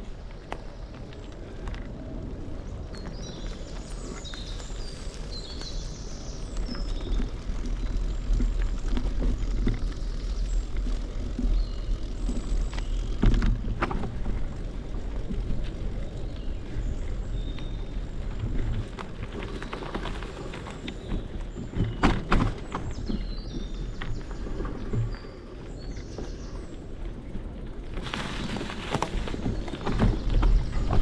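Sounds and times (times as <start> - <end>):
bicycle tyres rolling: 0.0 - 31.0
wind rumbling on microphone: 0.0 - 31.0.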